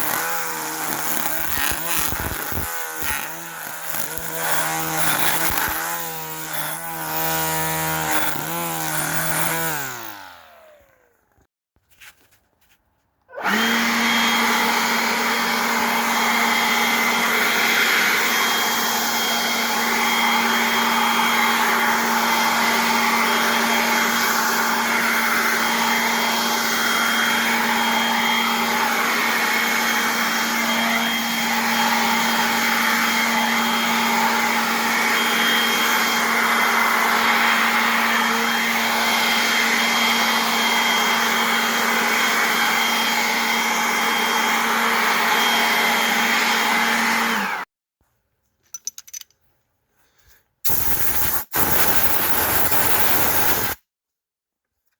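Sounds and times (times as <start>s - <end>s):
air compressor running: 0.0s - 10.9s, 13.4s - 47.6s, 50.7s - 53.8s.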